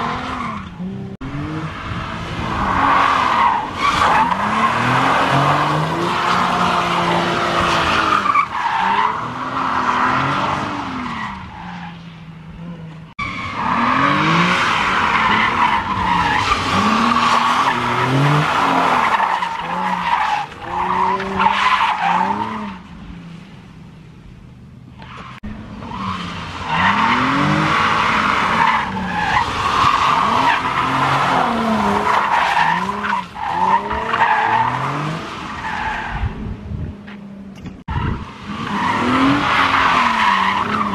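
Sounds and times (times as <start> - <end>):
car engines revving hard: 0.0 - 11.5, 12.4 - 23.5, 24.8 - 40.9
tires squealing: 0.0 - 23.4, 25.0 - 37.2, 37.8 - 40.9.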